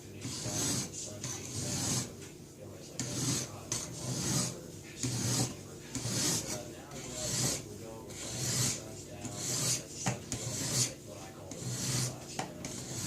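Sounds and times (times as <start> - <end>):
sharpening stone rasping on knife: 0.2 - 2.1, 3.0 - 13.0.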